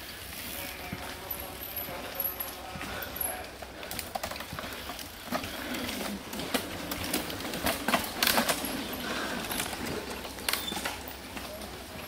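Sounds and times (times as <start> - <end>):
bikes clicking and rattling: 0.0 - 12.0.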